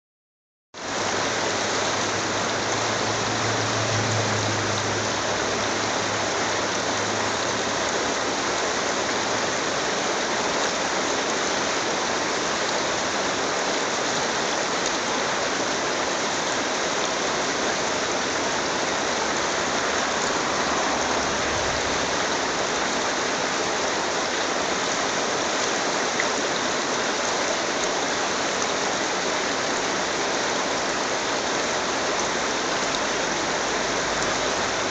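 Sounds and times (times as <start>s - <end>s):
stream rushing over stones: 0.8s - 34.9s.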